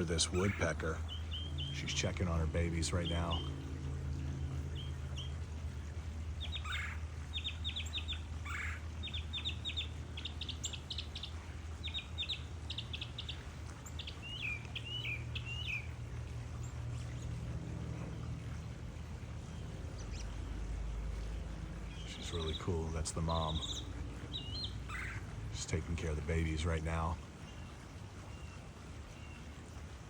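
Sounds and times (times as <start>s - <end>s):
birds calling: 0.0s - 30.0s
steady low hum: 0.0s - 30.0s.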